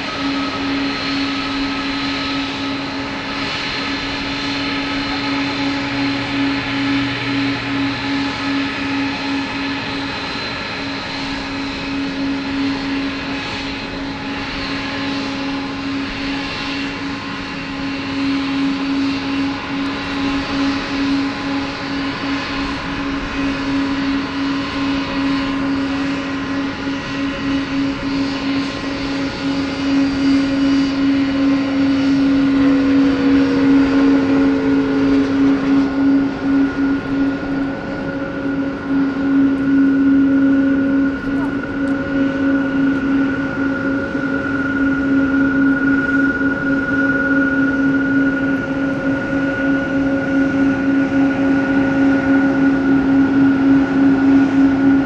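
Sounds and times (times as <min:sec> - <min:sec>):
jet engines idling with whine: 0:00.0 - 0:55.0.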